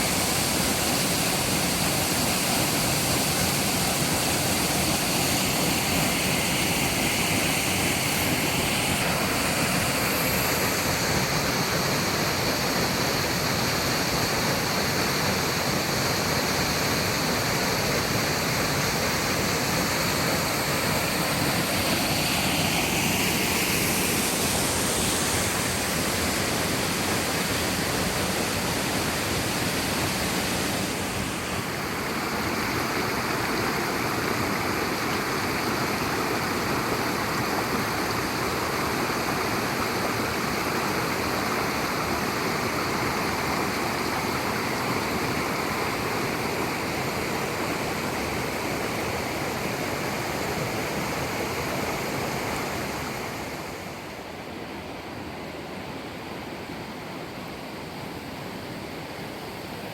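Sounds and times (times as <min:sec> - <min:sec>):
waterfall rushing: 0:00.0 - 0:55.3.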